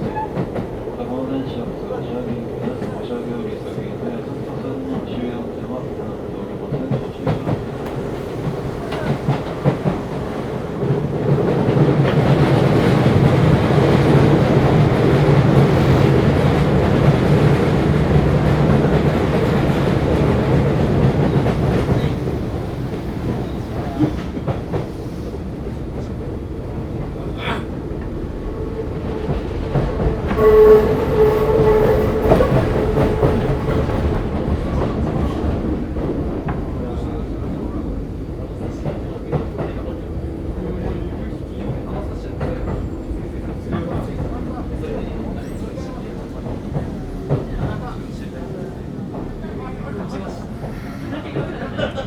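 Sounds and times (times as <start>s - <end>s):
train running noise: 6.1s - 52.0s.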